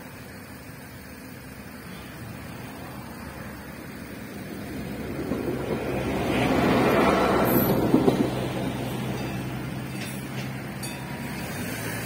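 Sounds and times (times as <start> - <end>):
rail vehicle engine and wheels: 0.0 - 12.0.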